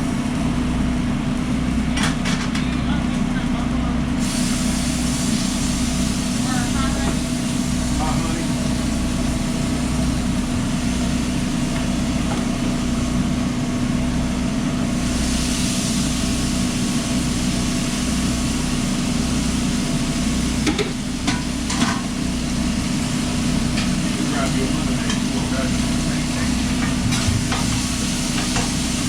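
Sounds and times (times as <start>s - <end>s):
machine hum with low throb: 0.0s - 29.0s
food sizzling on griddle: 4.2s - 29.0s.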